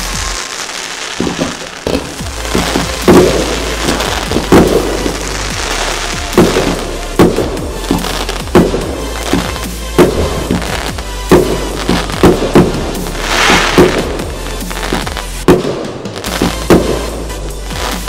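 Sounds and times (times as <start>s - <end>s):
firework bangs: 0.0s - 18.0s
firework crackles and pops: 0.0s - 18.0s.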